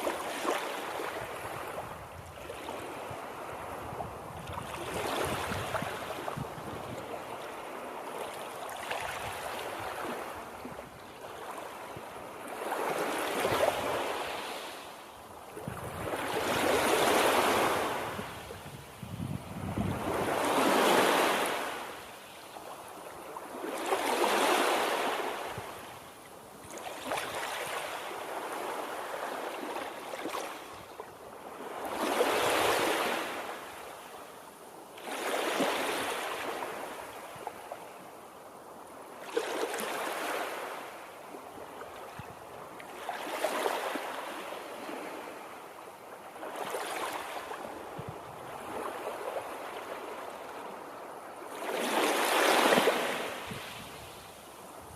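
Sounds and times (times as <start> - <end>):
waves breaking on shore: 0.0 - 54.9.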